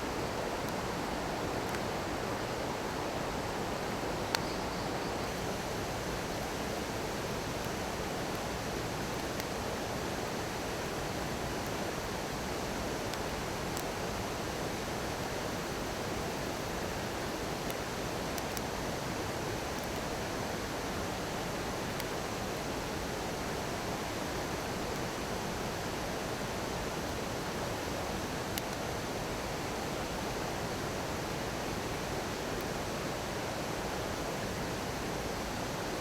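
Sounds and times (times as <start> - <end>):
bonfire crackles: 5.2 - 34.1.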